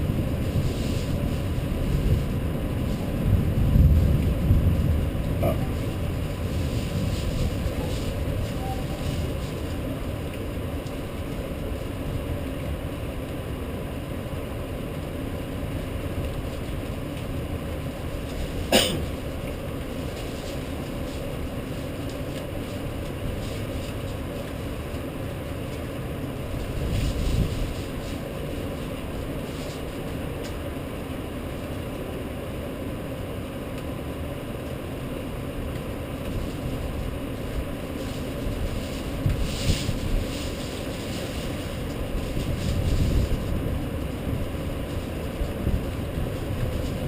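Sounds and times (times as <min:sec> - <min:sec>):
rainstorm rumbling: 0:00.0 - 0:31.8, 0:34.8 - 0:47.0.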